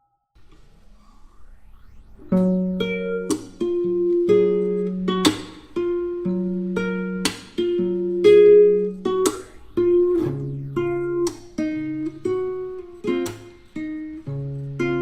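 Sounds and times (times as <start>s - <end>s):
plucked guitar music: 2.3s - 15.0s.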